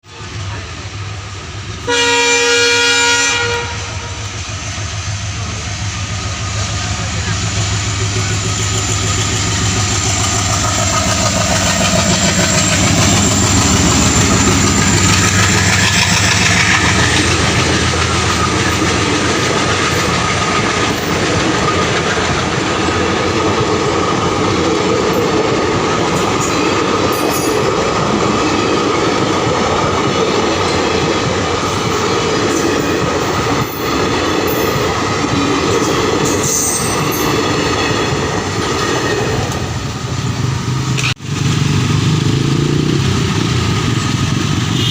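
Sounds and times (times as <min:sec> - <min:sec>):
low train hum: 0:00.0 - 0:44.9
train wheels rushing on rails: 0:00.0 - 0:44.9.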